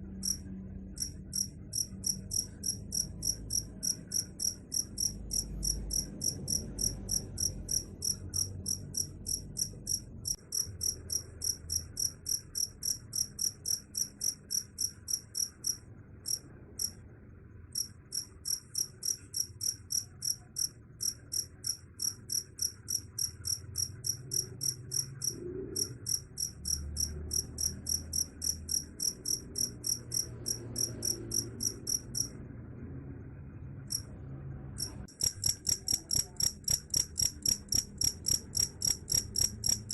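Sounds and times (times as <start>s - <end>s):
cricket chirping: 0.0s - 17.0s, 17.7s - 32.4s, 33.9s - 34.1s, 34.8s - 39.9s.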